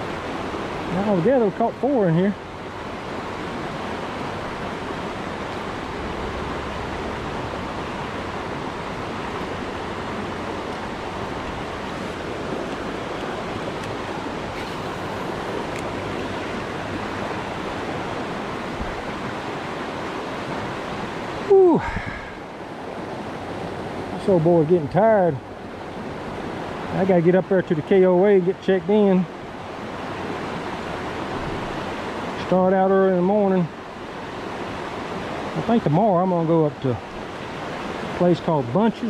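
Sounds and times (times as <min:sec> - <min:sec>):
creek rushing over rocks: 0:00.0 - 0:39.0.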